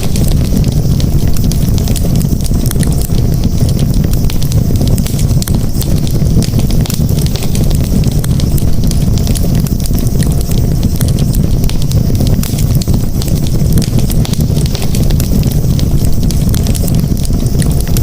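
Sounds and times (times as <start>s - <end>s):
campfire roaring: 0.0s - 18.0s
fire crackles and pops: 0.0s - 18.0s.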